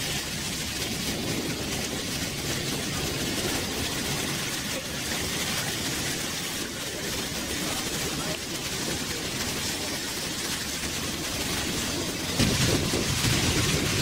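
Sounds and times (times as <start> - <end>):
low engine drone: 0.0 - 14.0
rushing water: 0.0 - 14.0
wind: 0.0 - 14.0.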